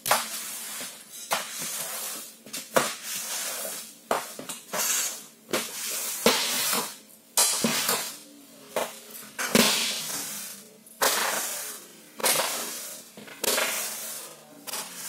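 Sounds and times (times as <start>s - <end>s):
broom scrubbing wet floor: 0.0s - 7.0s, 9.6s - 15.0s.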